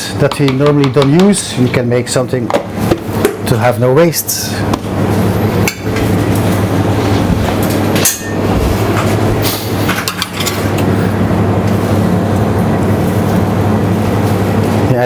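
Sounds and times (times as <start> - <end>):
ventilation hum: 0.0 - 15.0.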